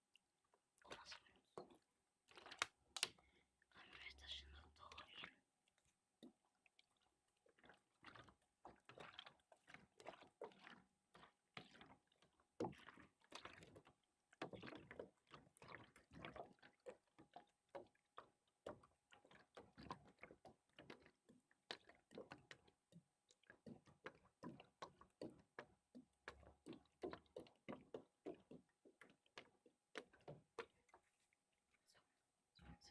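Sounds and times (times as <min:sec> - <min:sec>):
water sloshing and splashing: 0:00.4 - 0:04.0, 0:05.6 - 0:31.8.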